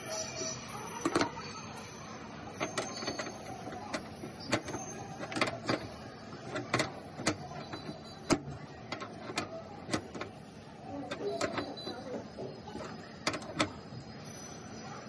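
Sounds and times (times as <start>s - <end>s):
steady background noise: 0.0s - 15.0s
tools clicking and knocking: 0.4s - 1.4s, 2.6s - 14.0s.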